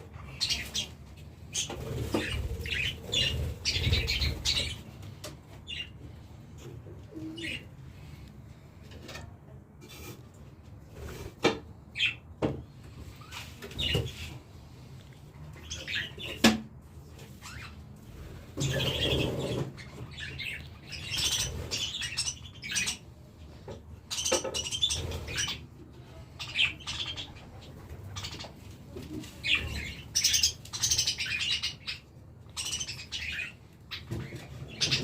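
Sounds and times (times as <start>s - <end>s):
birds chirping: 0.0s - 10.1s, 11.8s - 16.5s, 17.1s - 35.0s.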